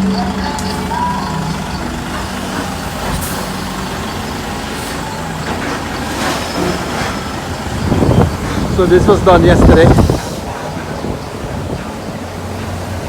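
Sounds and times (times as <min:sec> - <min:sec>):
demolition machine engine humming: 0:00.0 - 0:13.0.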